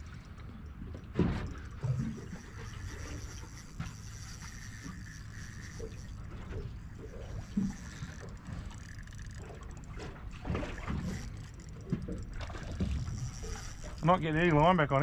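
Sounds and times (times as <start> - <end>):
wind and water rumble: 0.0 - 15.0
fishing reel clicking: 1.6 - 15.0.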